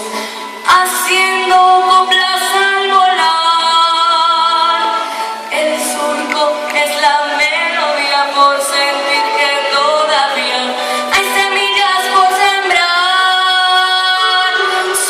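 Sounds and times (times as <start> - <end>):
girl singing: 0.7 - 4.8, 5.5 - 15.0.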